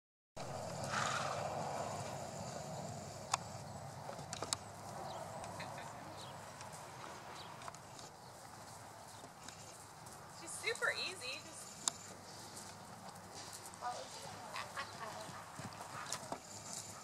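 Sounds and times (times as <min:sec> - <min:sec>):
horses walking on dirt: 0:00.4 - 0:17.0.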